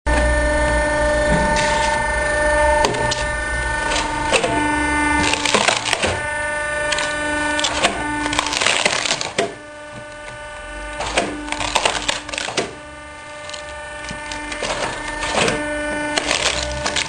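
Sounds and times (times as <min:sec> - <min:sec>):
machine mechanical whine: 0:00.1 - 0:17.0
logs cracking and knocking: 0:02.8 - 0:17.0.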